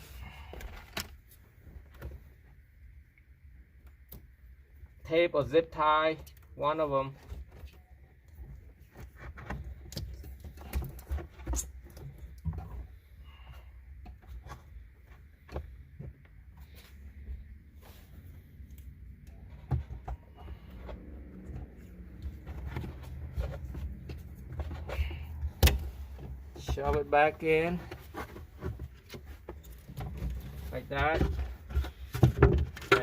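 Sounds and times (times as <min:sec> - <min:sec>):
clicks and rustles of wiring: 0:00.2 - 0:02.4, 0:06.0 - 0:33.0.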